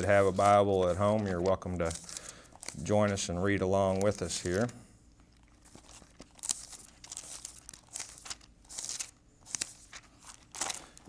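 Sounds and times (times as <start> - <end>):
paper pages turning: 0.0 - 11.0.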